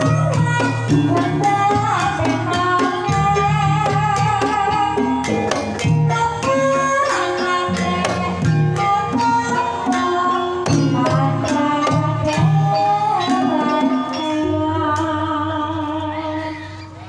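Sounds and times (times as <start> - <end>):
hand drums: 0.0 - 16.2
mallet-struck keyed instruments: 0.0 - 17.0
woman singing into microphone: 0.0 - 17.0.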